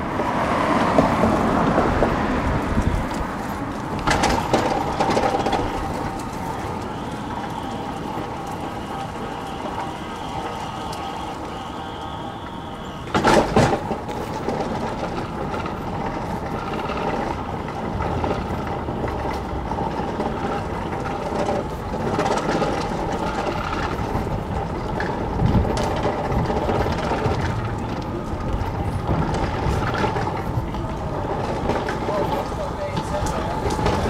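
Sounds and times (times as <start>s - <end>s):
street traffic: 0.0s - 34.0s
vehicle engine hum: 0.0s - 34.0s.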